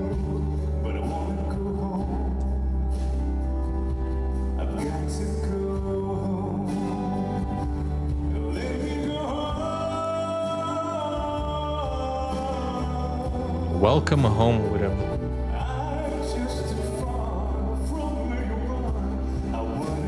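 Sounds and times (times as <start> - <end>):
backing track: 0.0 - 20.0
man singing a slow ballad: 0.0 - 20.0.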